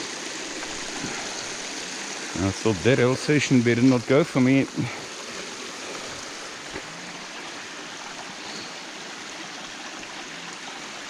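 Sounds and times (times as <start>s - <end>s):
stream rushing water: 0.0s - 11.0s.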